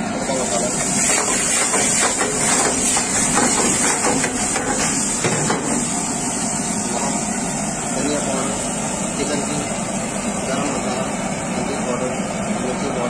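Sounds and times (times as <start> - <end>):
gas burner hiss: 0.0 - 12.9.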